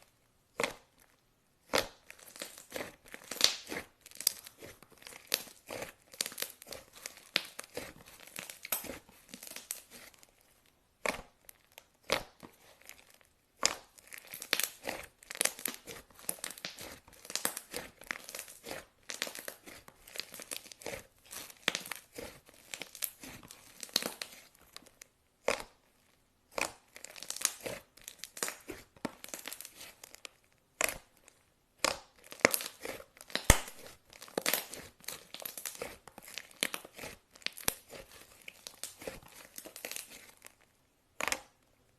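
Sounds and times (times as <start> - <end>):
slime crackling and popping: 0.5 - 41.9.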